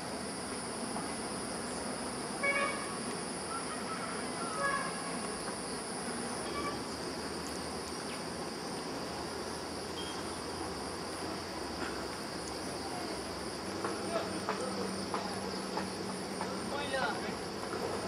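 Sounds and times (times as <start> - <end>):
insects droning: 0.0 - 18.0
rural background hiss: 0.0 - 18.0.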